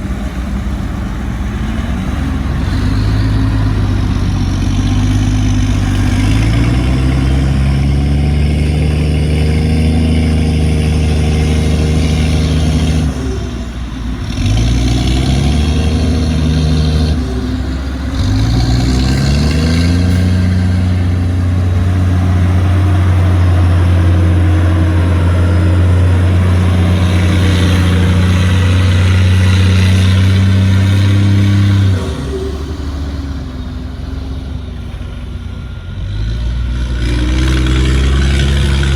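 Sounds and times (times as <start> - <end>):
heavy diesel engine under load: 0.0 - 38.9.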